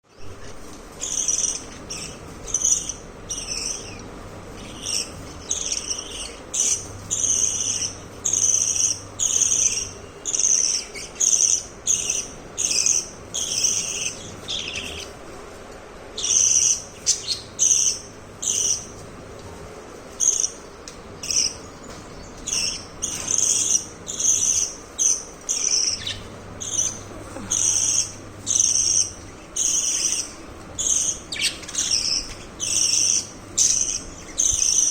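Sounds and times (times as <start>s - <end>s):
budgerigars chirping: 0.2s - 15.1s, 16.2s - 19.0s, 20.2s - 34.9s.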